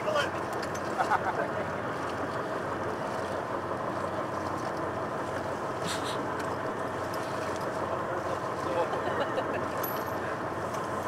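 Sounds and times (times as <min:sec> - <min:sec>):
boat engine running: 0:00.0 - 0:11.0
wind: 0:00.0 - 0:11.0.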